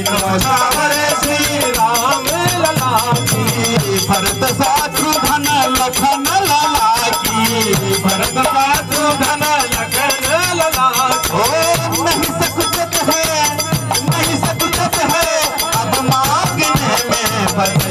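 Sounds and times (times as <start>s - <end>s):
harmonium: 0.0s - 17.9s
man singing: 0.0s - 17.9s
rattling hand percussion: 0.0s - 17.9s.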